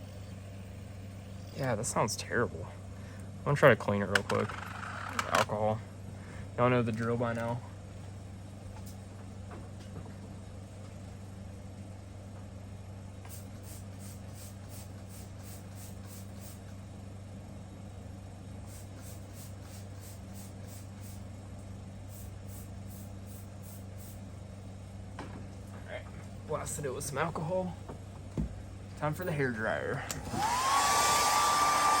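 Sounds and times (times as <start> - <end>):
steady low hum: 0.0 - 30.8.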